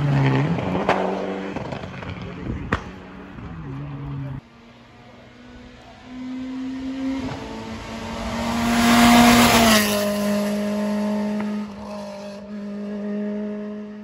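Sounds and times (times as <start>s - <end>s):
rally car passing at speed: 0.0s - 14.0s.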